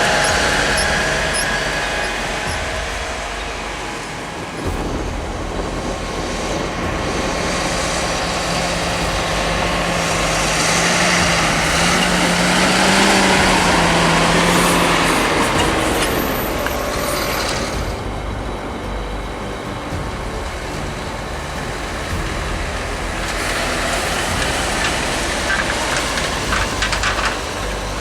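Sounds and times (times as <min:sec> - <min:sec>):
heavy vehicle engine driving past: 0:00.0 - 0:28.0.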